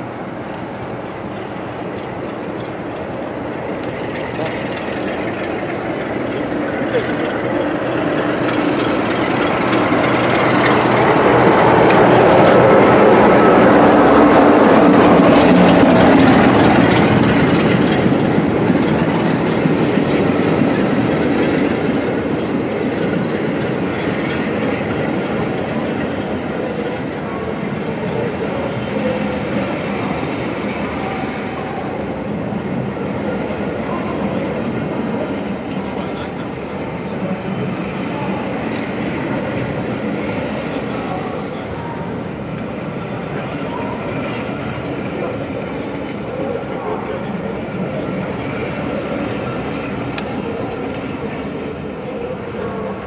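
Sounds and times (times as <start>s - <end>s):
coaches rolling on rails: 0.0s - 53.0s
passenger train passing: 0.0s - 53.0s.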